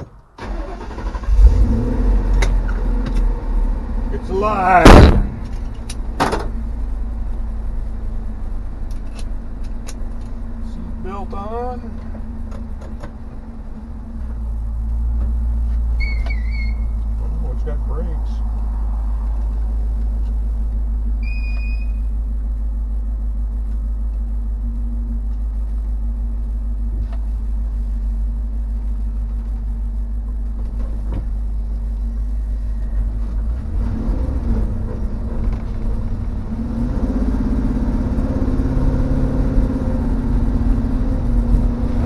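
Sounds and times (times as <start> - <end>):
truck engine idling and revving: 0.0 - 42.0.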